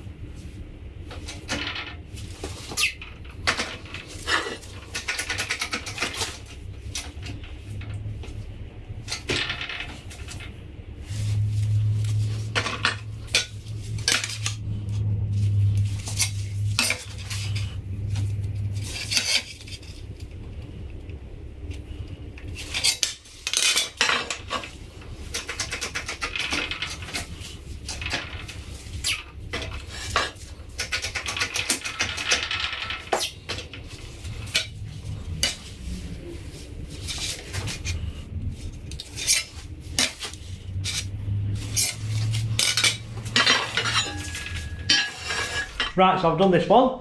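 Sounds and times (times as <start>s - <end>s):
steady low hum: 0.0s - 47.0s
steel plate clanking and scraping: 1.1s - 8.2s, 9.0s - 20.0s, 22.4s - 46.0s.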